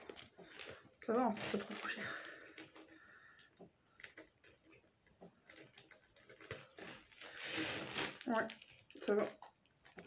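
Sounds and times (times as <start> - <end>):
light rustles of handling: 0.0 - 10.0.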